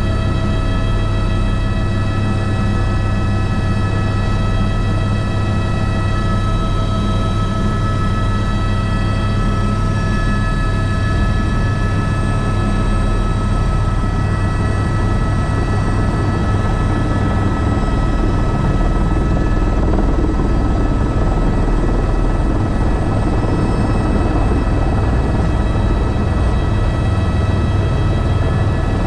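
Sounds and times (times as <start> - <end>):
helicopter rotor throb: 0.0 - 29.0
high turbine whine: 0.0 - 29.0.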